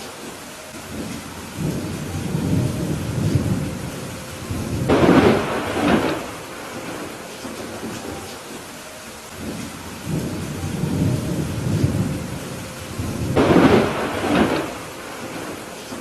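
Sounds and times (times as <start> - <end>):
steady rain: 0.0 - 16.0
rolling thunder: 0.8 - 8.2, 9.4 - 16.0.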